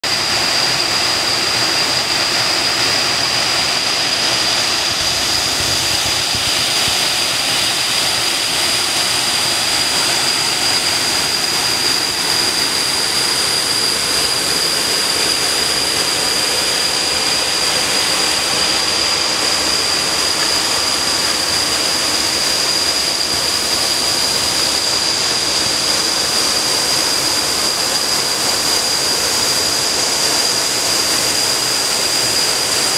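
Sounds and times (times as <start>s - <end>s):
waterfall rushing: 0.0s - 32.9s
high-pitched whine: 0.1s - 32.9s.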